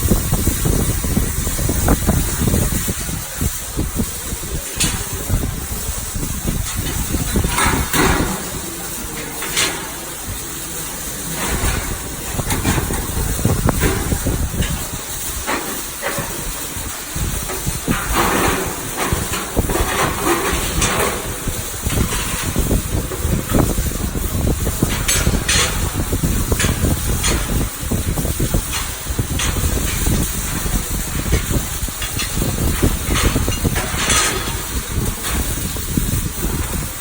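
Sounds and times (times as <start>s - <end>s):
arc welding crackling sizzle: 0.0s - 37.0s.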